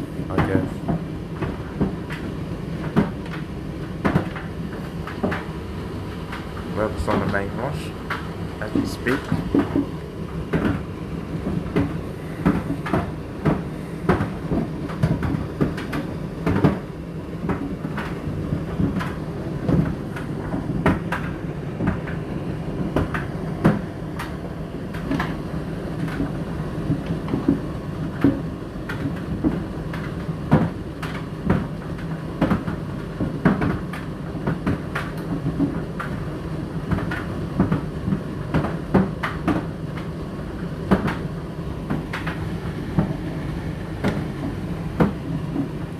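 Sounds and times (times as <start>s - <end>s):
appliances humming: 0.0s - 45.9s.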